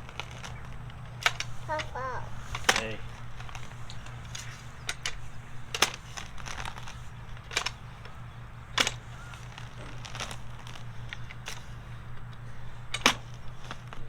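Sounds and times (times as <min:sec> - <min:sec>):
sharp clicks and knocks: 0:00.0 - 0:14.0
steady low hum: 0:00.0 - 0:14.0.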